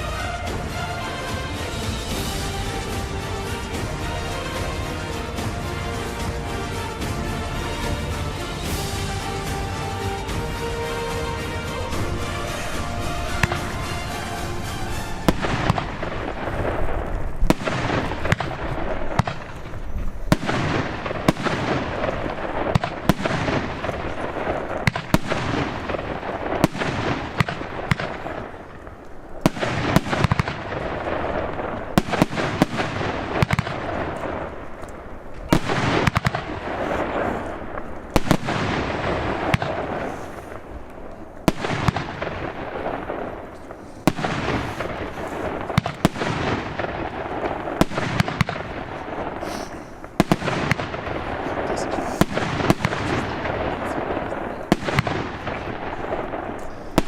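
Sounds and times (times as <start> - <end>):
crackling hiss: 0.0 - 57.0
firework bangs: 0.0 - 57.0.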